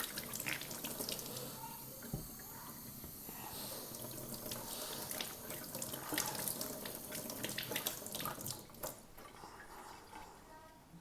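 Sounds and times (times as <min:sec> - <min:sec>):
tap water running: 0:00.0 - 0:10.5.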